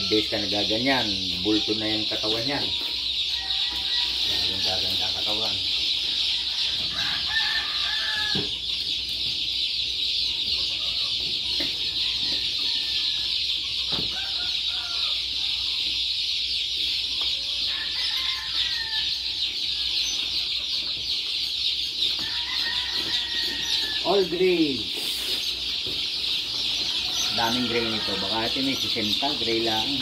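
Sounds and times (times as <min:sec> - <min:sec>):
chicks peeping: 0:00.0 - 0:30.0.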